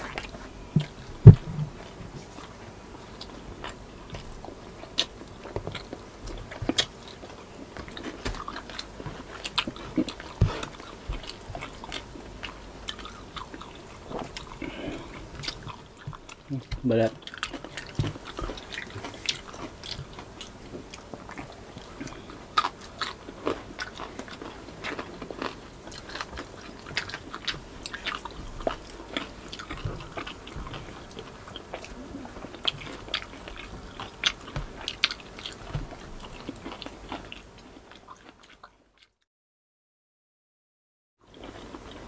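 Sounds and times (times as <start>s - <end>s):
crunchy chewing: 0.0s - 39.2s, 41.3s - 42.0s.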